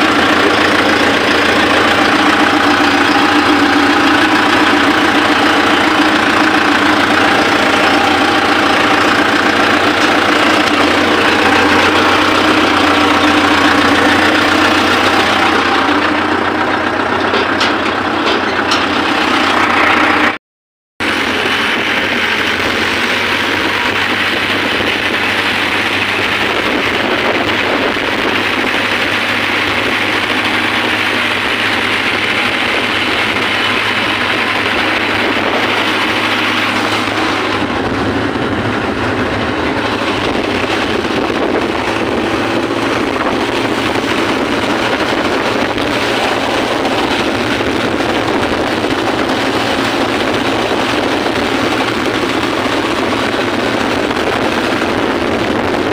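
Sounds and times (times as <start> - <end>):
dense rushing noise: 0.0 - 20.4, 21.0 - 55.9
tractor diesel engine running: 0.0 - 20.4, 21.0 - 55.9.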